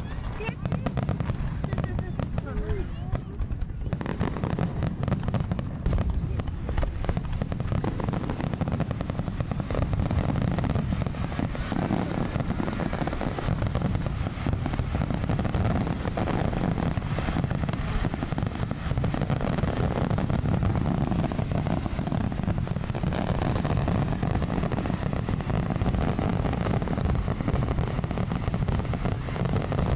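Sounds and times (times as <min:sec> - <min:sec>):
fireworks booming and crackling: 0:00.0 - 0:29.9.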